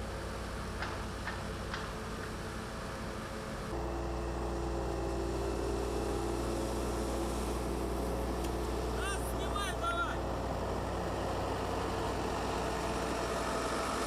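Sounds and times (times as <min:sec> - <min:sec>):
machinery engine droning: 0:00.0 - 0:14.0.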